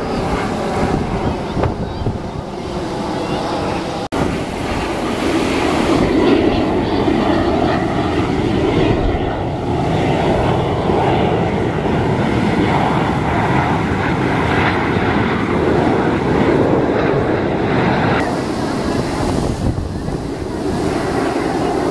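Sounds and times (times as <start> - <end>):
jet flying overhead: 0.0 - 21.9.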